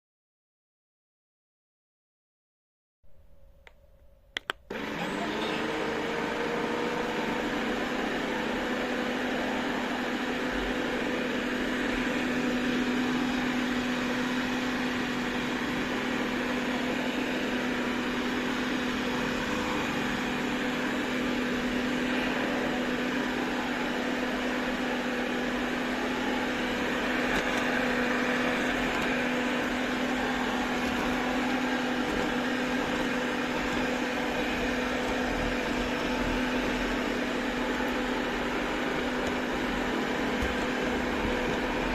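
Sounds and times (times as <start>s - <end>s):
robot vacuum cleaner running: 4.7s - 41.9s.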